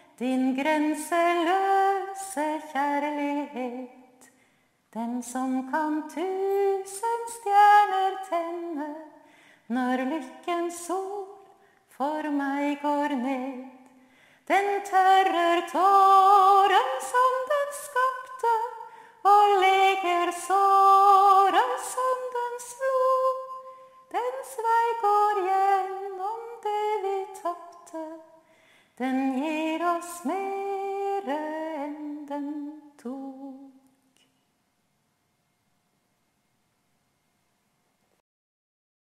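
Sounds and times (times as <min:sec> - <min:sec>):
woman singing unaccompanied: 0:00.0 - 0:04.3, 0:04.9 - 0:13.9, 0:14.5 - 0:28.4, 0:29.0 - 0:33.9.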